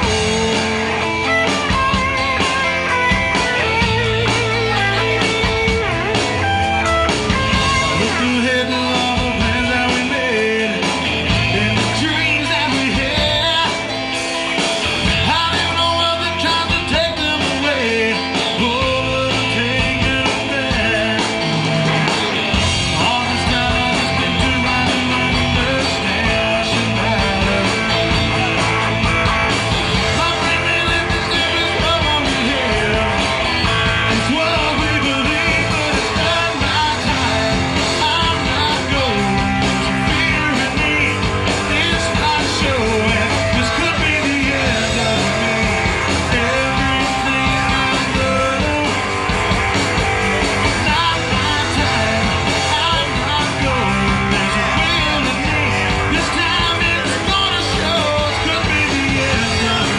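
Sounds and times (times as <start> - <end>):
man singing: 0.0 - 6.0, 7.6 - 14.2, 15.0 - 21.8, 22.8 - 29.1, 29.9 - 49.0, 50.6 - 59.9
drum kit: 0.0 - 59.9
electric guitars: 0.0 - 59.9.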